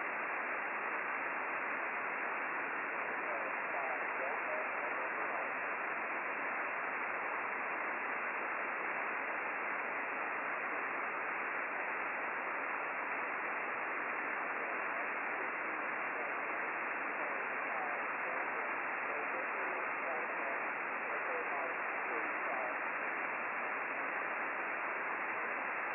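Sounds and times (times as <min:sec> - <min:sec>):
radio receiver hiss: 0:00.0 - 0:25.9.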